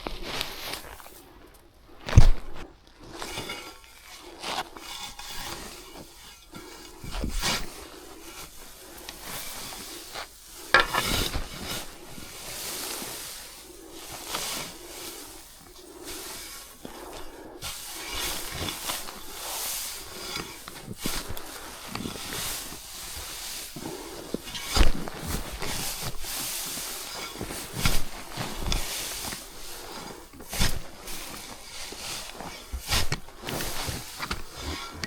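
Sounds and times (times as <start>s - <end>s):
hay rustling and scraping: 0.1s - 35.0s.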